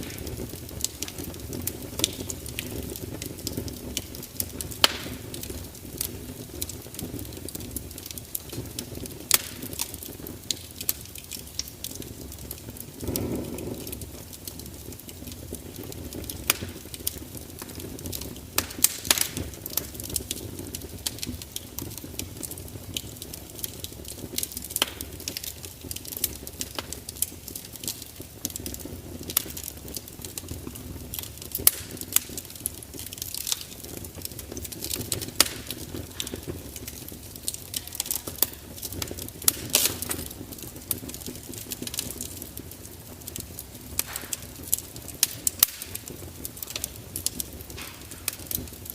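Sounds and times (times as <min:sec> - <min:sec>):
low rush of flame: 0:00.0 - 0:48.9
wood fire crackling and popping: 0:00.0 - 0:48.9.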